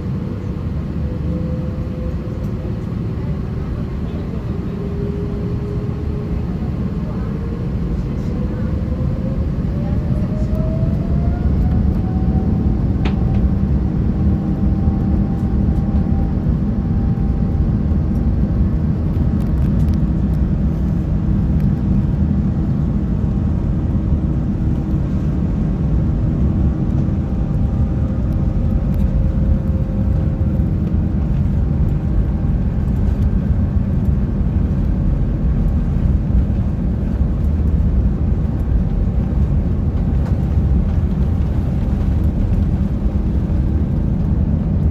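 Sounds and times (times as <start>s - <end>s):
aircraft cabin engine rumble: 0.0s - 44.9s
engine whine: 0.0s - 44.9s.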